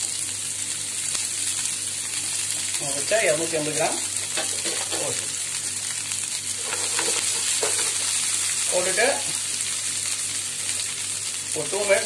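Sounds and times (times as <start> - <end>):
cabbage sizzling in oil: 0.0 - 12.0.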